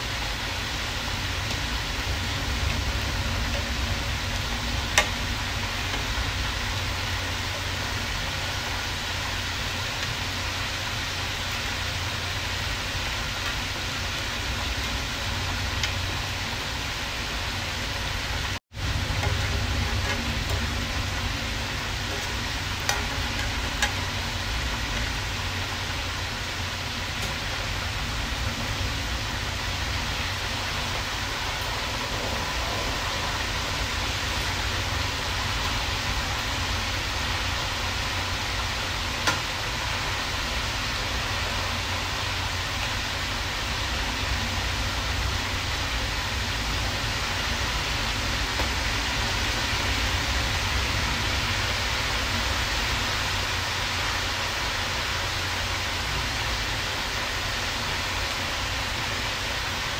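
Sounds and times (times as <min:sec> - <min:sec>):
food sizzling in pans: 0:00.0 - 0:59.9.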